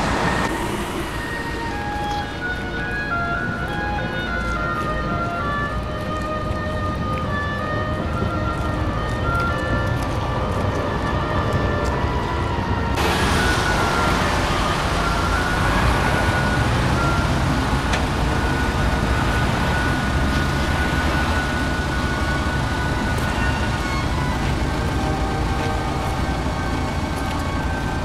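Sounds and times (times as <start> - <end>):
machinery engine rumble: 0.0 - 28.0.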